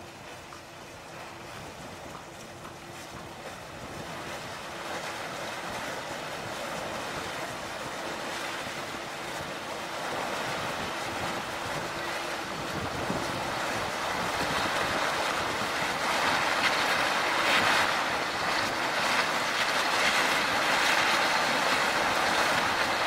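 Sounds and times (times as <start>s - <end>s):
sea noise: 0.0s - 23.0s
wind rushing on microphone: 0.8s - 23.0s.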